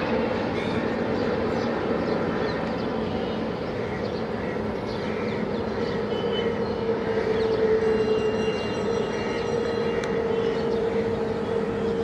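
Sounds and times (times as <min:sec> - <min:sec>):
jet engines rushing and humming: 0:00.0 - 0:12.0.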